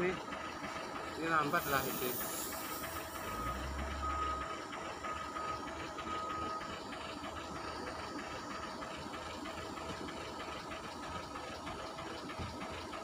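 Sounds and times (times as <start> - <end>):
loader engine running: 0.0 - 13.0.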